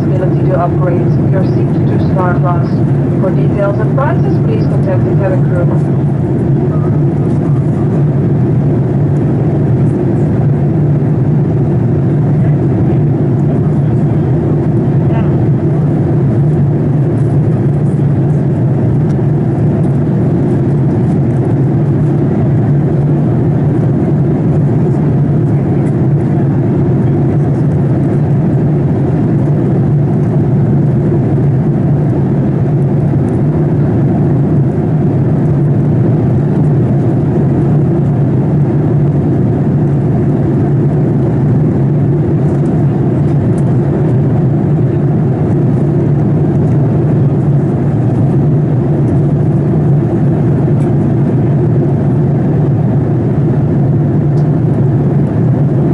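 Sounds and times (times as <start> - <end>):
airliner cabin drone: 0.0 - 55.9.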